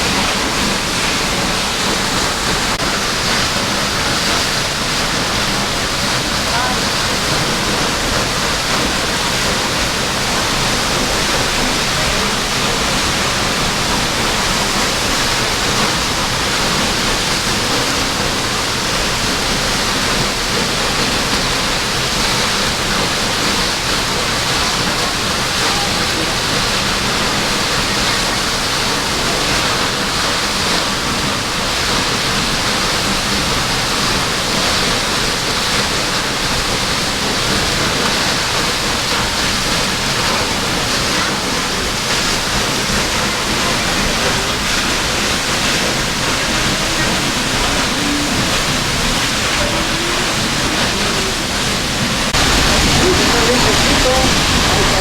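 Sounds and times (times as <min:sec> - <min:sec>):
waterfall pouring: 0:00.0 - 0:55.0.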